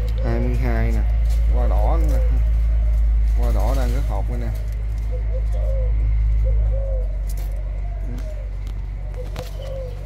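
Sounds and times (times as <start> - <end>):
doves cooing softly: 0.0 - 10.0
steady low hum: 0.0 - 10.0.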